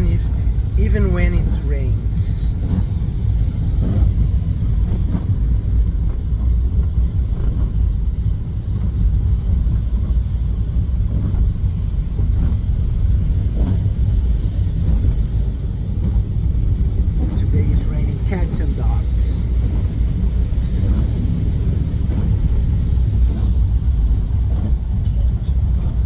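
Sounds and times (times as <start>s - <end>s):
car engine rumble: 0.0s - 26.0s
road noise inside car: 0.0s - 26.0s.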